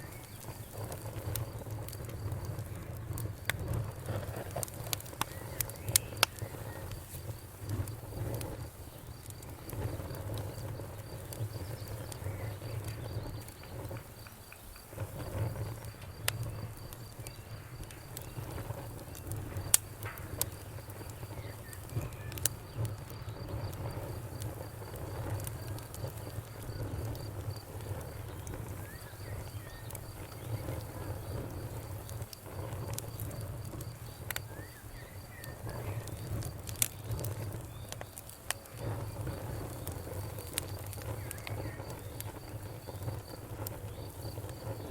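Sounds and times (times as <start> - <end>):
low rumble of flame: 0.0 - 44.9
sharp pops of fire: 0.0 - 44.9
wood fire crackling: 0.0 - 44.9.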